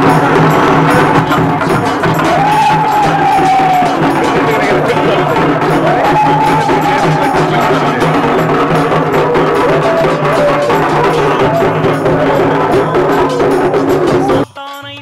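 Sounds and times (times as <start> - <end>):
wavering melody: 0.0 - 14.4
drums beating fast rhythm: 0.0 - 15.0.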